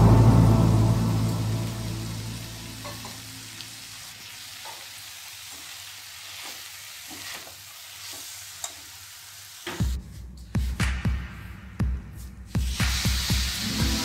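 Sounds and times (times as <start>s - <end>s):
food sizzling in a pan: 0.0s - 10.0s, 12.5s - 14.0s.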